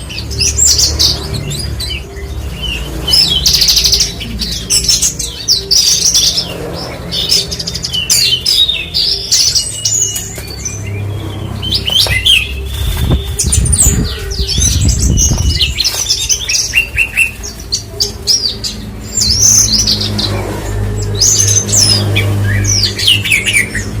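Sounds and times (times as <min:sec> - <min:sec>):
bird singing chirps and trills: 0:00.0 - 0:24.0.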